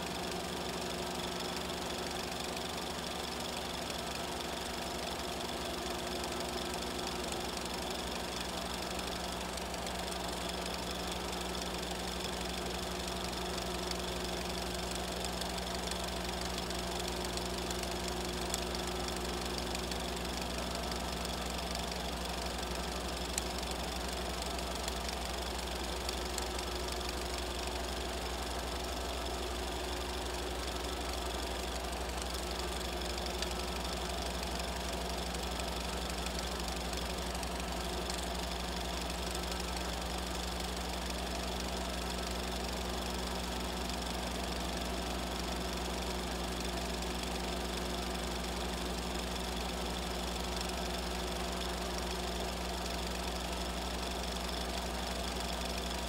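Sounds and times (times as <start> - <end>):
film projector motor hum: 0.0 - 56.0.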